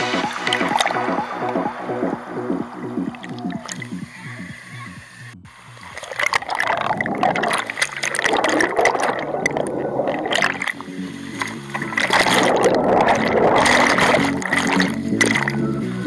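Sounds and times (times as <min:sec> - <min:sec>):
faint music: 0:00.0 - 0:08.2, 0:09.6 - 0:16.0
water gurgling over microphone: 0:00.0 - 0:16.0.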